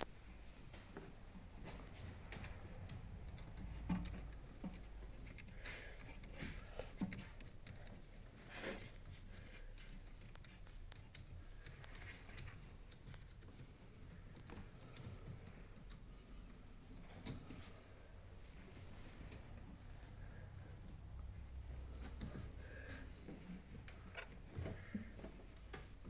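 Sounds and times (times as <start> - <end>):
faint clicks and knocks: 0.0 - 26.0
low steady hum: 0.0 - 26.0.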